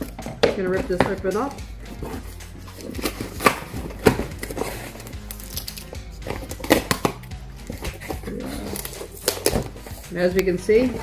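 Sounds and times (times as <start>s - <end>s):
packing tape and cardboard tearing: 0.0s - 11.0s
quiet background music: 0.0s - 11.0s.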